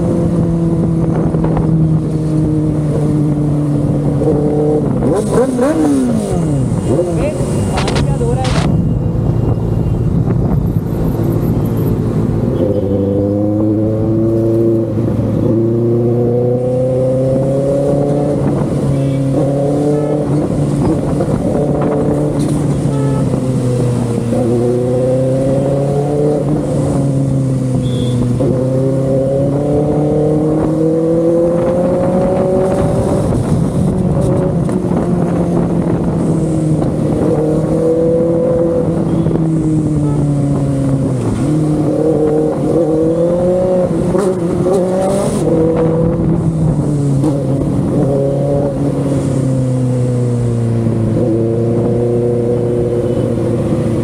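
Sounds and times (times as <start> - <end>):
motorcycle engine accelerating: 10.2 - 54.0.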